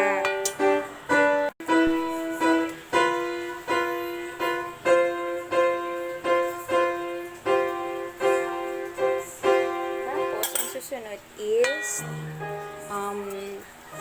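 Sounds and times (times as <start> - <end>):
piano single notes: 0.0 - 14.0.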